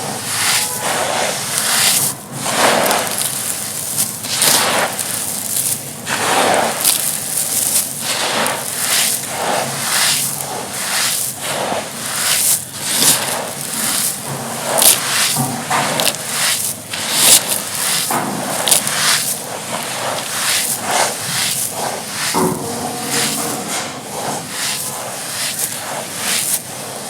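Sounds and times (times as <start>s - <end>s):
dry material being crushed: 0.4s - 23.7s, 24.5s - 26.7s.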